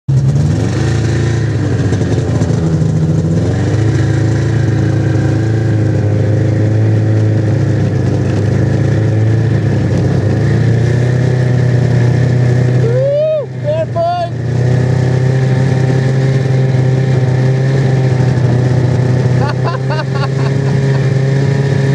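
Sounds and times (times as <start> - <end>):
snowmobile engine running: 0.1 - 21.9.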